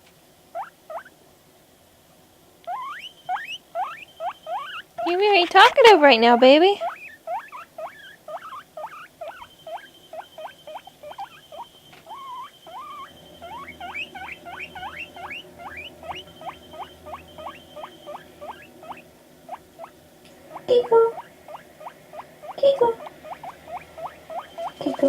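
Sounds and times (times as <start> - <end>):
guinea pig squeaking: 0.5 - 1.1, 2.6 - 25.0.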